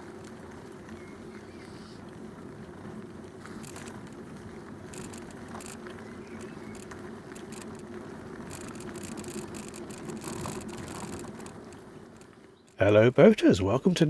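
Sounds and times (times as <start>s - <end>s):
small rattles and clicks: 0.0s - 12.8s
bicycle tyres on unpaved path: 0.0s - 14.0s.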